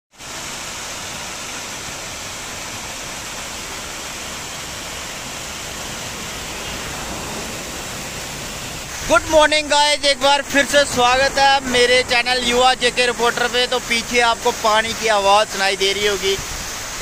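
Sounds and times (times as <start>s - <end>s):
waterfall splashing onto rocks: 0.2s - 17.0s.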